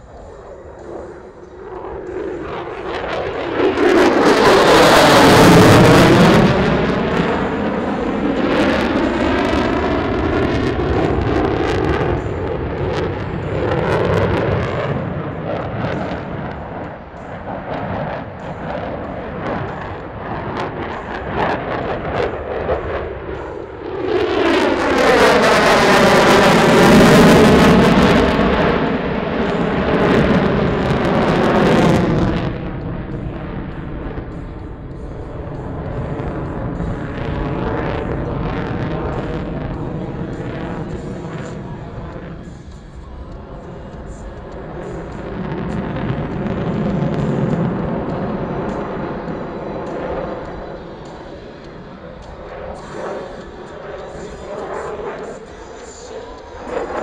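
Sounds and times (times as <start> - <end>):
jet passing with rushing noise: 0.0 - 57.0
steady jet rumble: 0.0 - 57.0.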